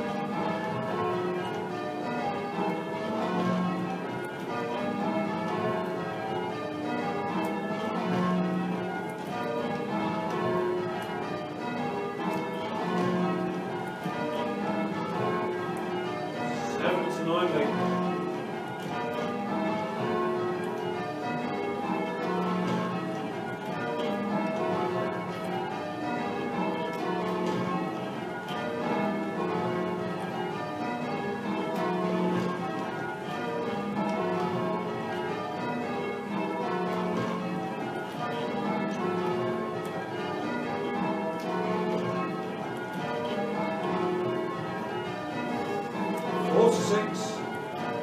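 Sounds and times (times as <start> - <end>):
church bells ringing changes: 0.0 - 48.0.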